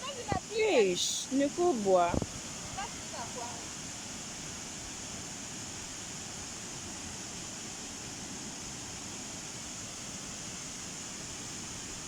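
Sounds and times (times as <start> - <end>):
steady hiss-like noise: 0.0 - 12.0.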